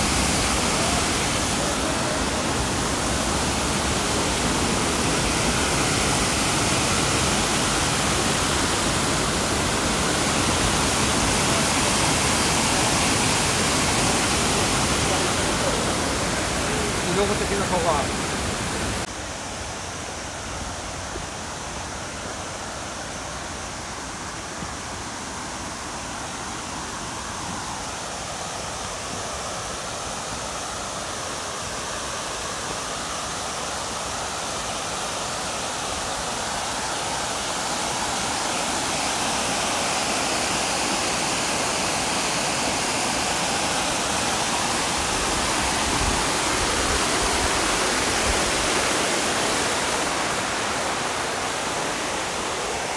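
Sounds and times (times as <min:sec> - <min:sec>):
water rushing in waterfall: 0:00.0 - 0:52.9.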